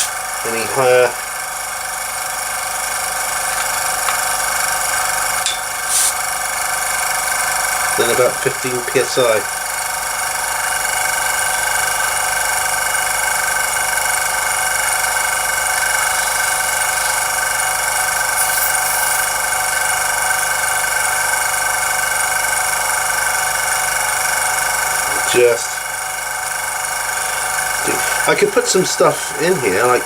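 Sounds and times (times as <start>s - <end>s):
airbrush compressor whining: 0.0s - 30.0s.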